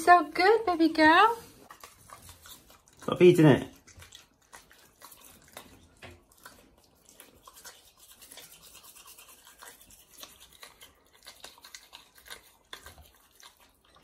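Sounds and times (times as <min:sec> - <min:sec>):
toothbrush scrubbing teeth: 0:00.0 - 0:14.0.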